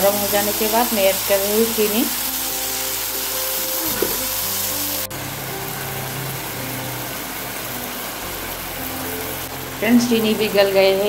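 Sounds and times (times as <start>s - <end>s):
background music: 0.0s - 11.0s
tomatoes sizzling in oil: 0.0s - 11.0s.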